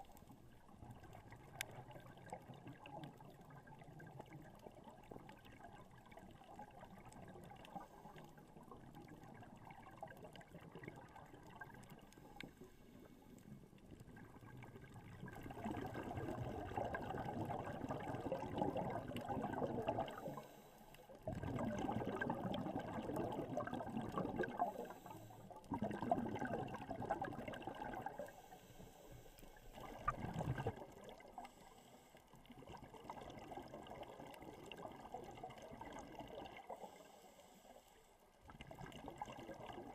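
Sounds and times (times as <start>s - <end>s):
exhaled bubbles underwater: 0.0s - 31.6s, 32.3s - 37.1s, 38.4s - 39.9s
low water noise: 0.0s - 39.9s.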